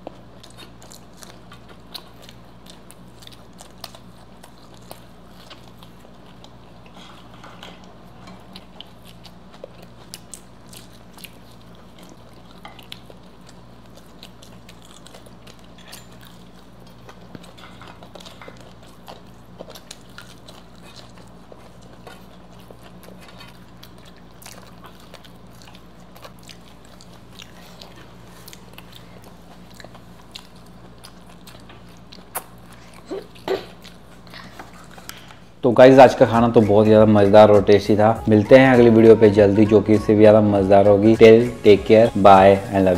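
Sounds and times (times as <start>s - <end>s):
chewing and crunching food: 0.0s - 39.3s
low electrical hum: 0.0s - 42.9s.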